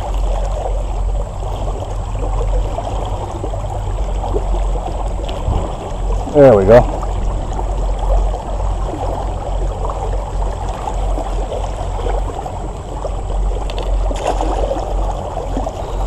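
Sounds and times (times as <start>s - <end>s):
creek water trickling and splashing: 0.0s - 16.0s
low rumble: 0.0s - 16.0s.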